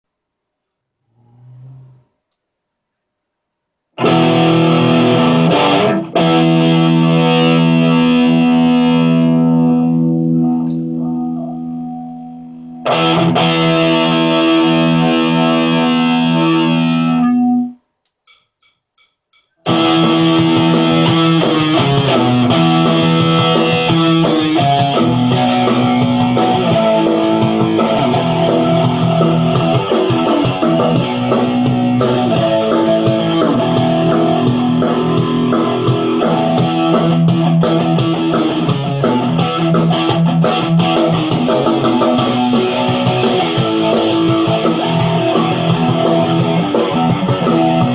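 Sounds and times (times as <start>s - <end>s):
electric guitar chords: 4.0s - 17.8s, 19.6s - 47.9s.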